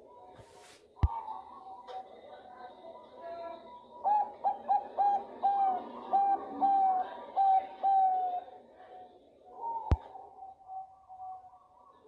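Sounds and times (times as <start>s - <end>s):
dove cooing: 1.0s - 8.6s, 9.5s - 12.0s.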